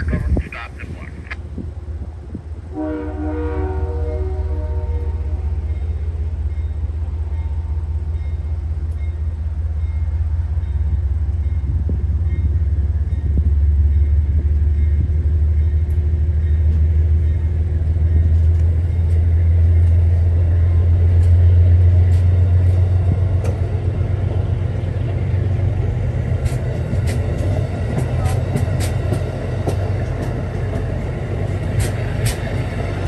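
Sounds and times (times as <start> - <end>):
diesel locomotive rumbling: 0.0 - 33.0.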